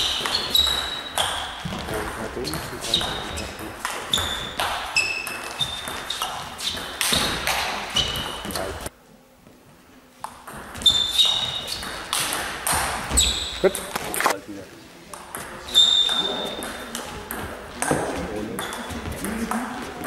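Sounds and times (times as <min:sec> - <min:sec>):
ping pong ball hits: 0:00.0 - 0:08.6, 0:10.2 - 0:14.2, 0:15.1 - 0:19.8.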